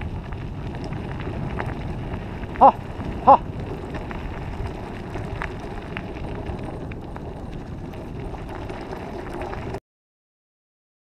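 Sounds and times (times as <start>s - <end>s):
scooter rolling over dirt: 0.0s - 9.8s
wind on microphone: 0.0s - 9.8s.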